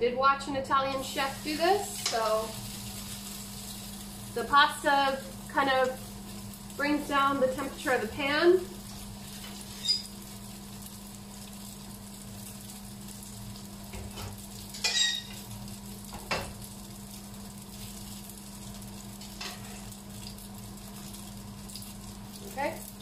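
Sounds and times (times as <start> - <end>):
pasta sizzling in a frying pan: 0.8 - 23.0.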